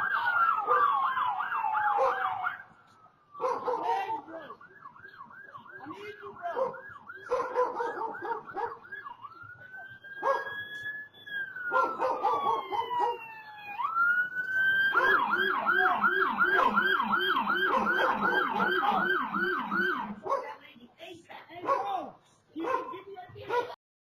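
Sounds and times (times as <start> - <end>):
emergency vehicle siren: 0.0 - 20.3.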